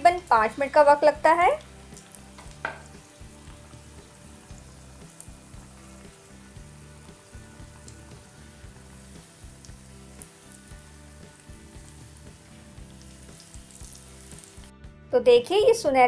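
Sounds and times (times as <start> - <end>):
donuts deep-frying in oil: 0.0 - 14.7
small crackles of frying oil: 0.0 - 14.8.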